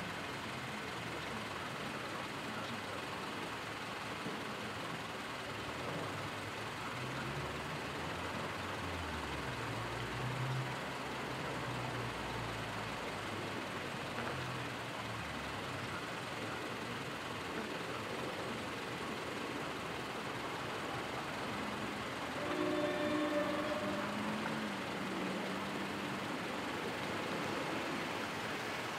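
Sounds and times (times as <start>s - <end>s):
steady background noise: 0.0s - 28.9s.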